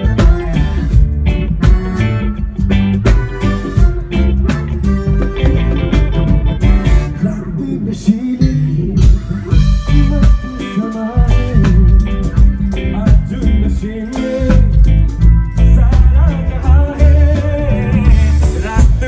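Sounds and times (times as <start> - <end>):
bass: 0.0 - 19.0
drum kit: 0.0 - 19.0
electric guitar: 0.0 - 19.0.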